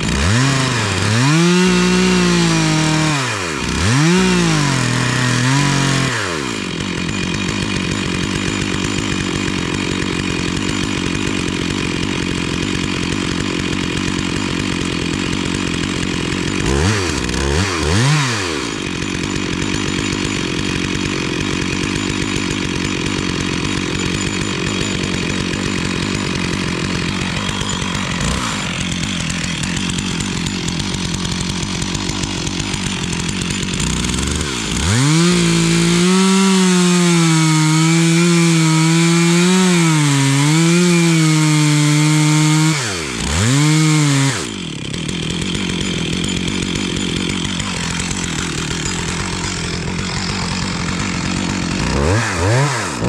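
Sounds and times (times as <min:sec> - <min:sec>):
chainsaw revving and idling: 0:00.0 - 0:53.0.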